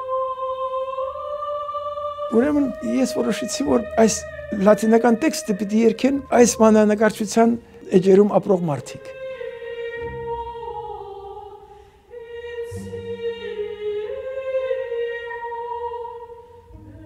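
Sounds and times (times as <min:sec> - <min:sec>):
choir singing long held notes: 0:00.0 - 0:17.0.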